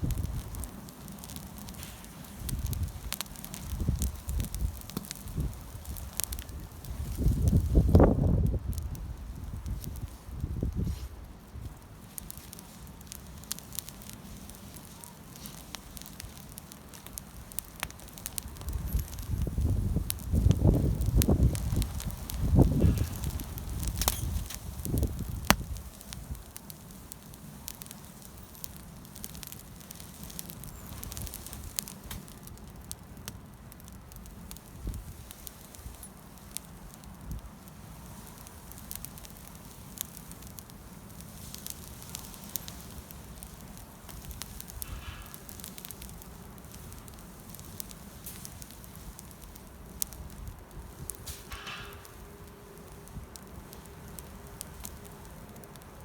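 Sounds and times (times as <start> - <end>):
campfire crackling and popping: 0.0 - 56.0
low rumble of flame: 0.0 - 56.0.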